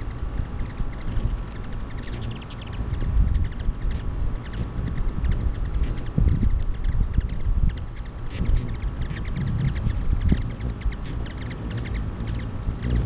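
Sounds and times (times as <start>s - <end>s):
hummingbirds ticking and chirping: 0.0s - 13.0s
low uneven rumble: 0.0s - 13.0s.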